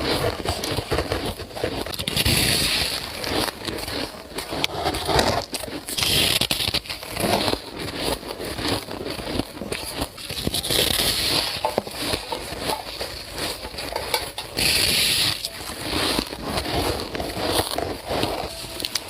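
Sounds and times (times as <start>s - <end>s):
ice crunched between teeth: 0.0s - 19.0s.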